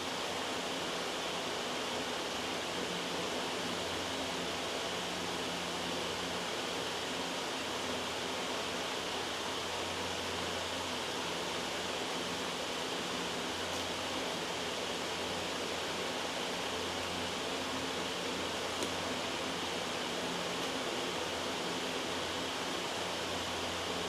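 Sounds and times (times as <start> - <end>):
loud white noise hiss: 0.0 - 24.0.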